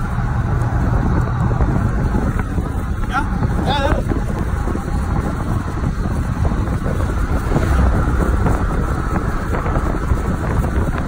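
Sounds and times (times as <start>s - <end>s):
moving vehicle rumble: 0.0s - 11.0s
wind buffeting microphone: 0.0s - 11.0s.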